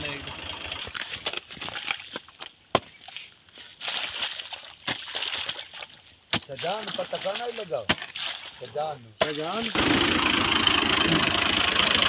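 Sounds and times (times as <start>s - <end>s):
hoe chopping muddy earth: 0.1s - 3.2s, 3.8s - 12.0s.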